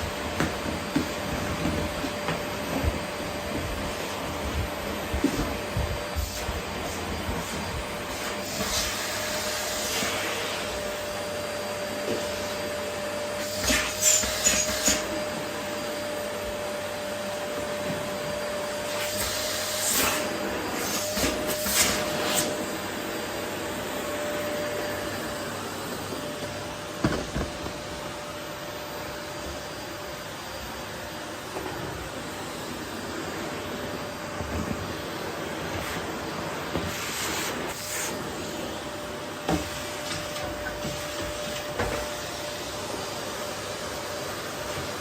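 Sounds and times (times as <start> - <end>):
vacuum cleaner running: 0.0 - 45.0.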